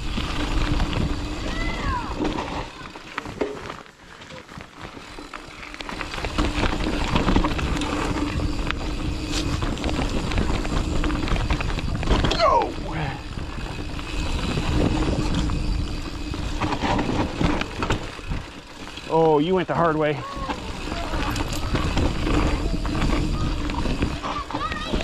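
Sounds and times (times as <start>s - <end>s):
wind rumbling on microphone: 0.0s - 2.6s, 6.0s - 19.1s, 20.2s - 25.0s
freehub buzzing: 0.0s - 3.3s, 5.0s - 25.0s
bike tyres rattling over dirt: 0.0s - 25.0s.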